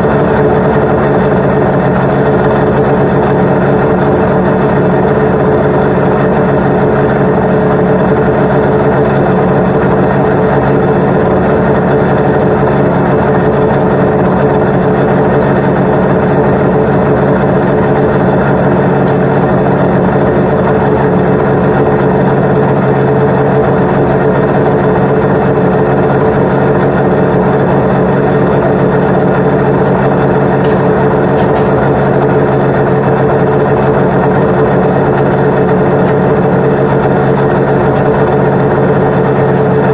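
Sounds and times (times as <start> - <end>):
snowmobile engine idling: 0.0 - 39.9.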